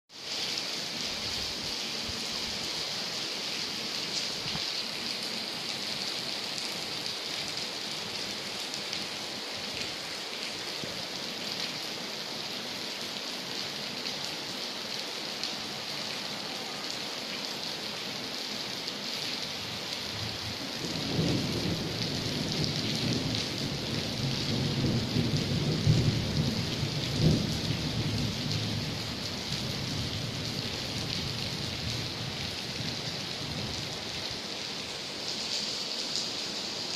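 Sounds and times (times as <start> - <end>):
steady rain hissing: 0.1 - 36.9.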